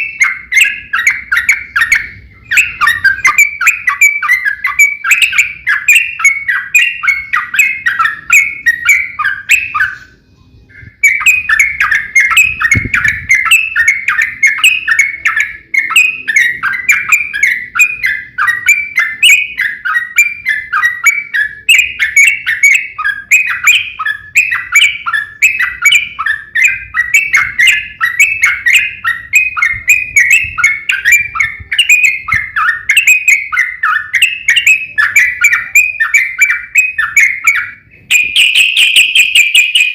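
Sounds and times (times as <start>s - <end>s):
bulbuls singing bubbling chirps: 0.0s - 39.9s.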